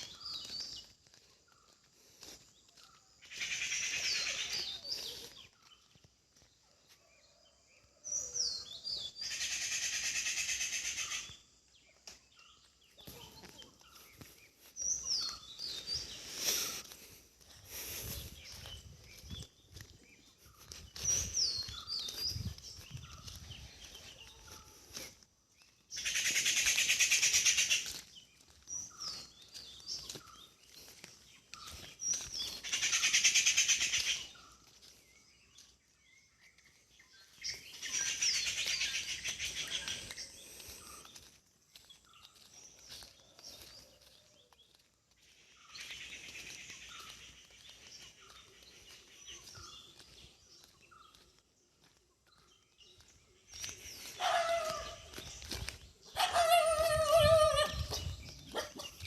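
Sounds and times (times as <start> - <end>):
birds chattering: 0.0 - 6.0, 8.1 - 59.0.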